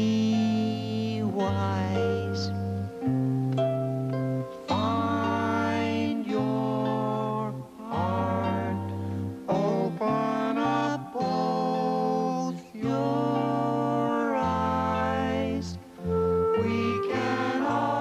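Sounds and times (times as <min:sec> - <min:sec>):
plucked acoustic guitar: 0:00.0 - 0:18.0
voices singing slow song: 0:00.0 - 0:18.0.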